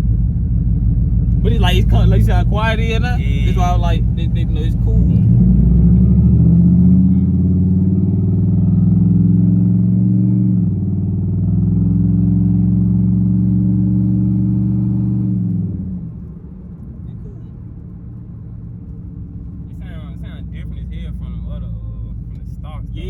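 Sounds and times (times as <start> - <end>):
car exhaust droning while driving: 0.0 - 23.0.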